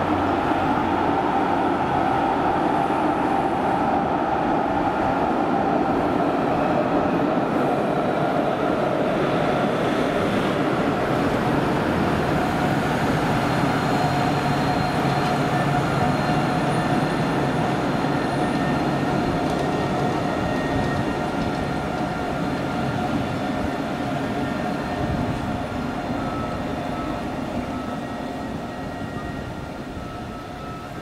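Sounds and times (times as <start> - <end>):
tram rumbling on track: 0.0 - 31.0
tram whining tones: 0.0 - 31.0.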